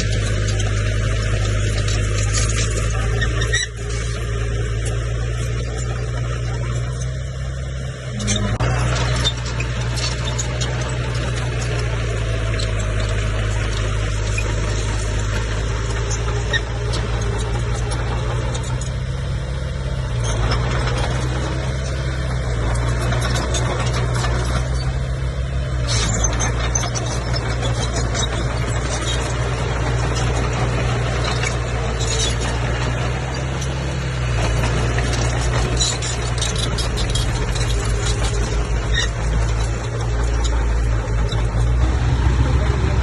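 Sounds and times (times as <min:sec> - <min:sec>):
bulldozer diesel engine under load: 0:00.0 - 0:43.0.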